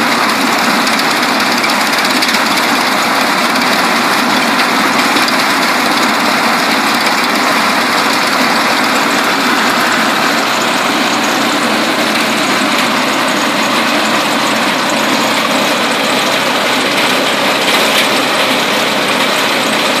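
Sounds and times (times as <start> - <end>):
branch chipper running: 0.0 - 20.0.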